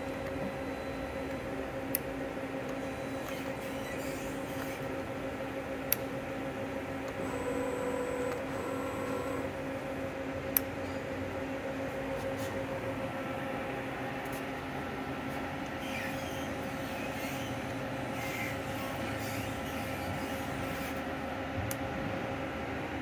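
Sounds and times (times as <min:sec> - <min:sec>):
machine electrical hum: 0:00.0 - 0:23.0.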